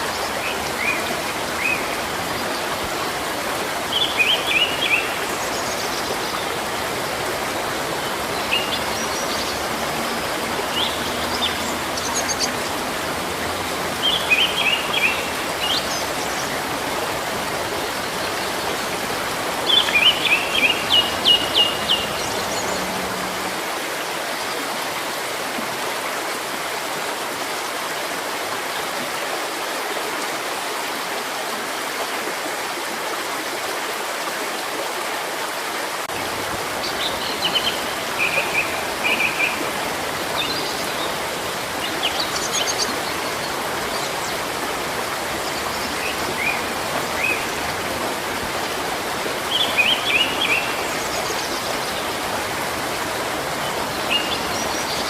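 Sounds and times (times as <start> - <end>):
stream of running water: 0.0 - 55.0.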